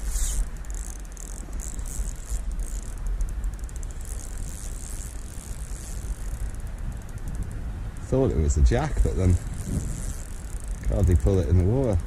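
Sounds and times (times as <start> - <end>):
fishing reel whirring and clicking: 0.0 - 12.0
wind rumbling on microphone: 0.0 - 12.0.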